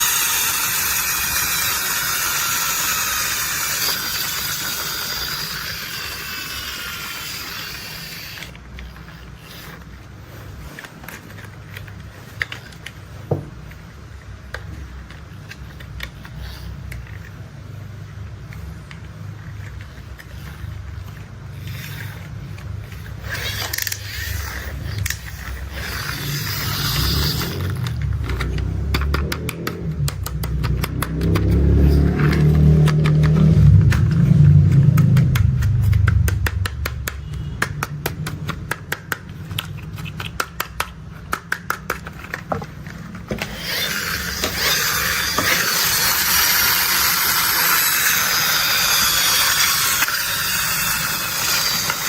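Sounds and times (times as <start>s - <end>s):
toy parts clicking and scraping: 0.0s - 52.0s.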